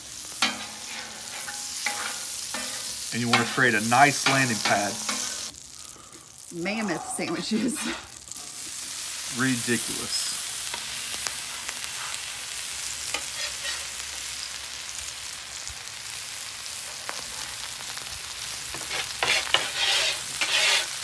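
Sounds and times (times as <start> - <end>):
oil sizzling on a griddle: 0.0 - 21.0.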